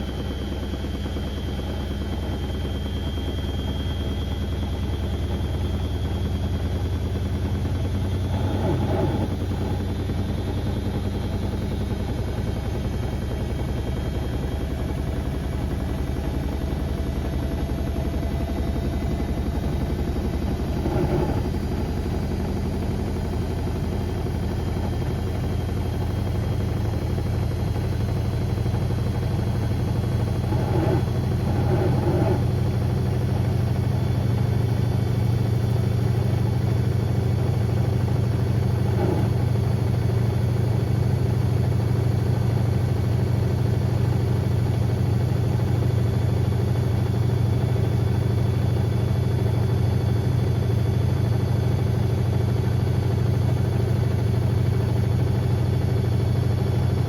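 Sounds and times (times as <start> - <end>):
washing machine drone: 0.0 - 57.0.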